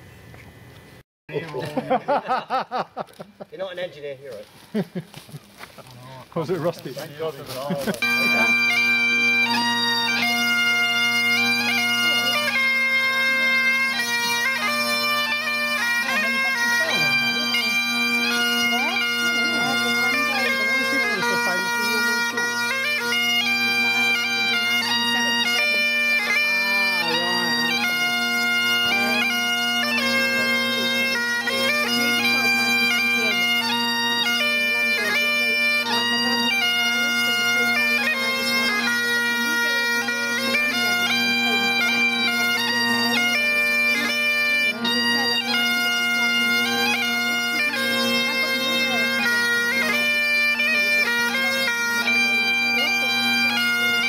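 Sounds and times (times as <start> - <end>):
bagpipes playing slow tune: 6.3 - 54.0.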